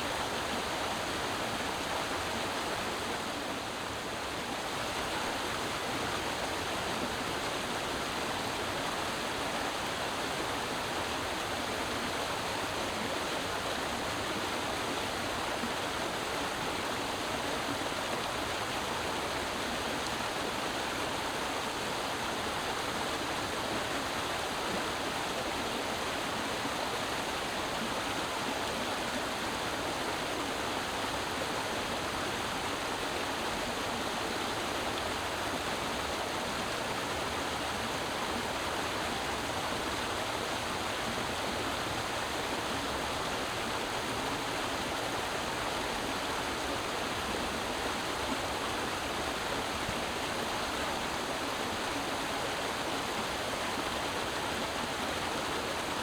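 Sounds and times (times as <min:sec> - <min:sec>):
creek water flowing over rocks: 0:00.0 - 0:56.0.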